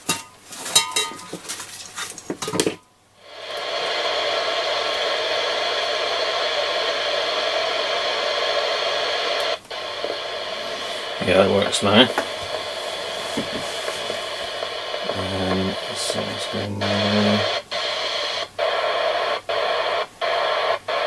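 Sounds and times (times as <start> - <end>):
radio static hiss: 2.6 - 21.0.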